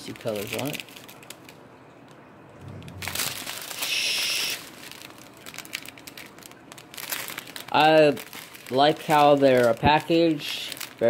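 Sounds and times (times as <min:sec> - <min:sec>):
plastic bags crinkling: 0:00.0 - 0:01.6, 0:02.6 - 0:11.0.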